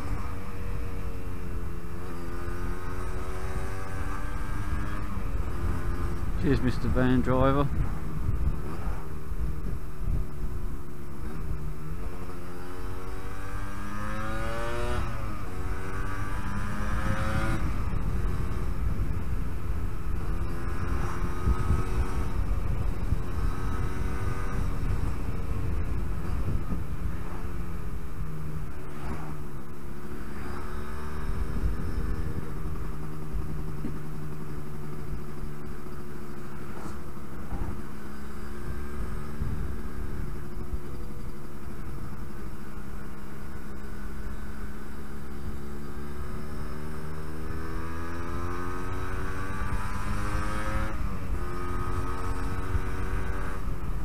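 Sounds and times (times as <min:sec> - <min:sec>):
two-stroke motorcycle engine riding: 0:00.0 - 0:54.0.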